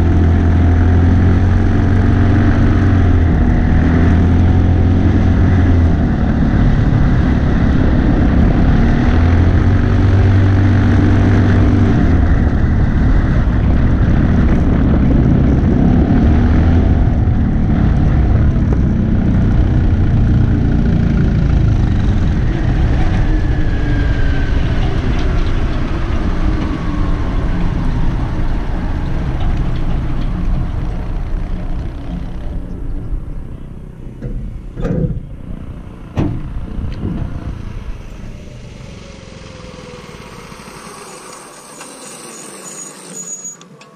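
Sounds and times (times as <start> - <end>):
single-cylinder engine running: 0.0 - 43.9.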